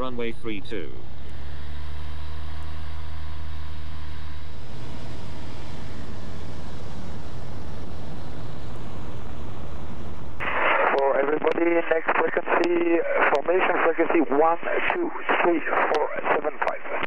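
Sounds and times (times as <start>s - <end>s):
light aircraft engine drone: 0.0s - 17.0s.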